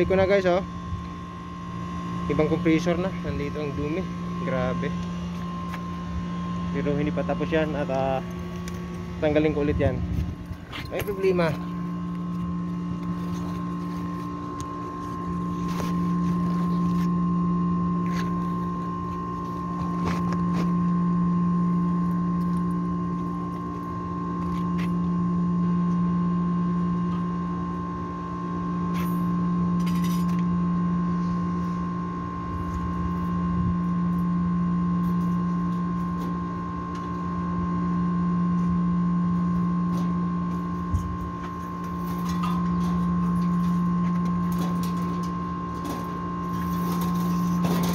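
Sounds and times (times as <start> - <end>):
air conditioning compressor hum: 0.0 - 47.9.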